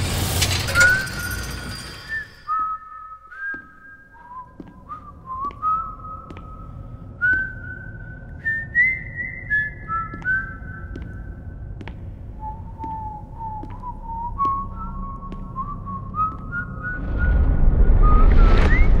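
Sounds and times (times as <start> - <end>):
person whistling melody: 2.0 - 11.3, 12.4 - 19.0.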